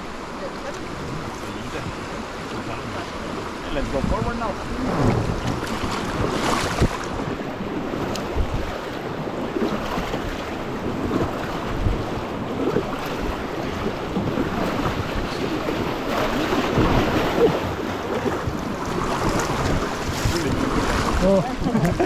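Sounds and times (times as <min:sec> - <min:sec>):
paddling: 0:00.0 - 0:22.0
river water rushing and splashing: 0:00.0 - 0:22.0
wind buffeting microphone: 0:00.8 - 0:22.0.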